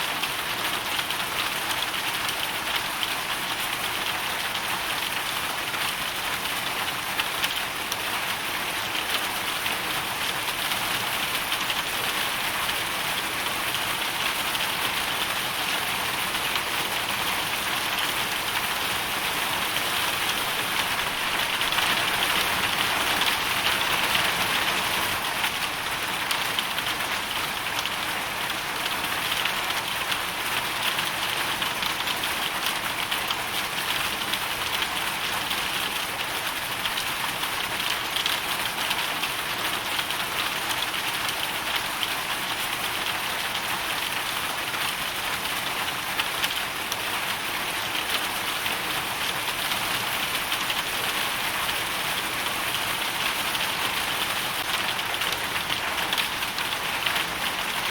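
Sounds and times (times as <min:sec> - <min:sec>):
hail and rain striking a surface: 0:00.1 - 0:57.9.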